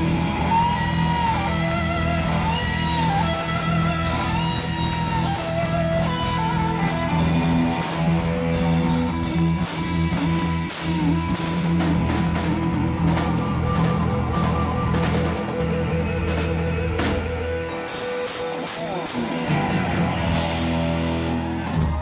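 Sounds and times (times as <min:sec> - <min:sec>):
drums: 0:00.0 - 0:22.0
electric guitars: 0:00.0 - 0:22.0
lead guitar bending notes: 0:00.0 - 0:22.0.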